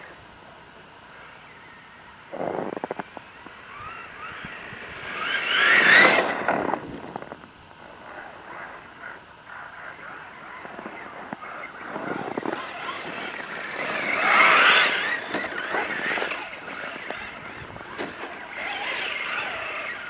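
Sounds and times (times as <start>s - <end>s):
rc truck motor whine: 1.1s - 20.0s.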